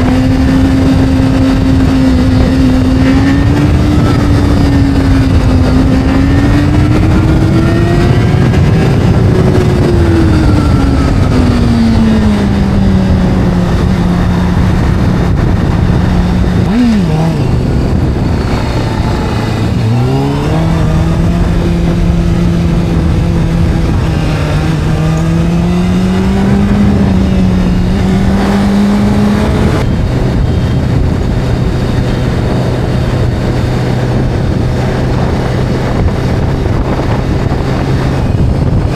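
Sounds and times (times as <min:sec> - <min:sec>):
low steady drone: 0:00.0 - 0:38.9
rush of noise: 0:00.0 - 0:38.9
video game motorcycle engine: 0:00.0 - 0:38.9.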